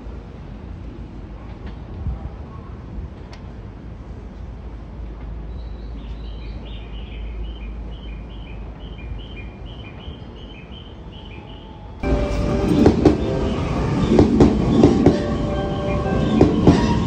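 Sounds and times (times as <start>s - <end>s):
station ambience rumble: 0.0s - 17.0s.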